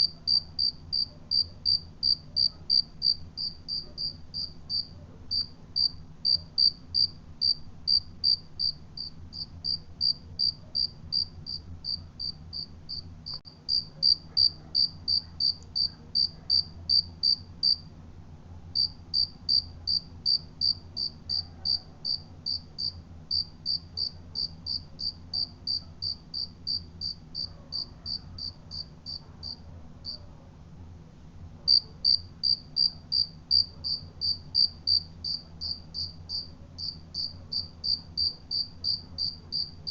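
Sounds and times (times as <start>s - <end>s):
cricket chirping: 0.0s - 17.8s, 18.8s - 30.2s, 31.7s - 39.9s
faint low hum: 0.0s - 39.9s.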